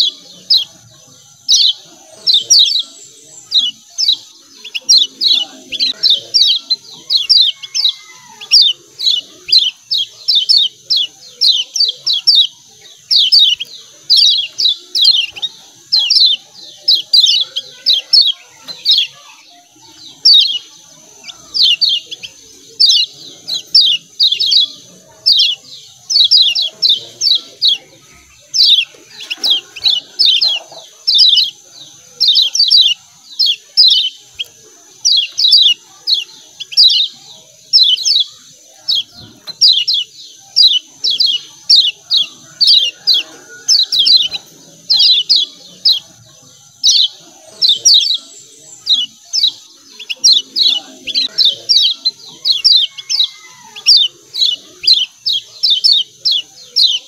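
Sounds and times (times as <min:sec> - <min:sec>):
birds giving chip calls: 0:00.0 - 0:57.0.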